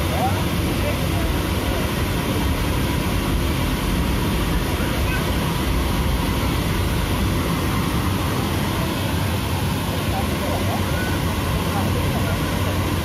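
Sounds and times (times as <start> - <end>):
continuous low rumble: 0.0 - 13.0
crowd voices: 0.0 - 13.0.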